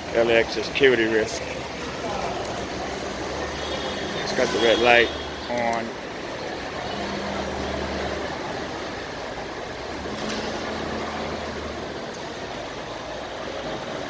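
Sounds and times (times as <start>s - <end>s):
road traffic rush: 0.0s - 14.0s
low engine hum: 1.6s - 14.0s.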